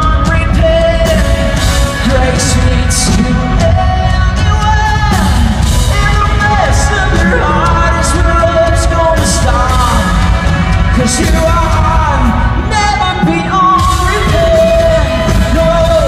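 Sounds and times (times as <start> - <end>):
live pop-rock band: 0.0 - 16.0.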